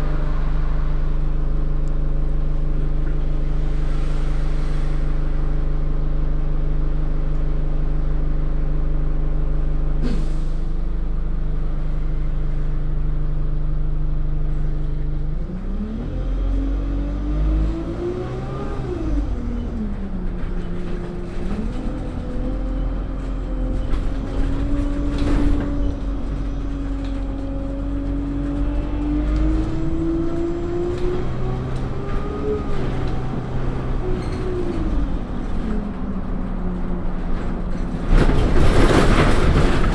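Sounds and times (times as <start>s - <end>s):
bus engine: 0.0s - 39.9s.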